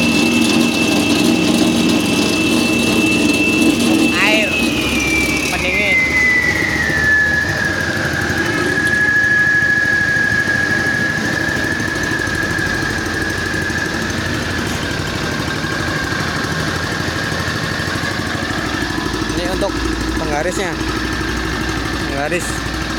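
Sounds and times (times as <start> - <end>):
cutting saw engine running: 0.0 - 22.9
high steady whine: 0.0 - 22.9.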